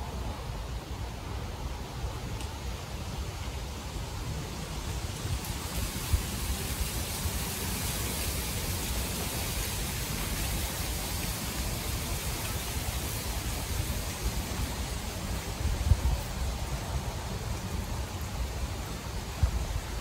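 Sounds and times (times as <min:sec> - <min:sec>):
wind rumble on microphone: 0:00.0 - 0:20.0
wind rushing in trees: 0:00.0 - 0:20.0.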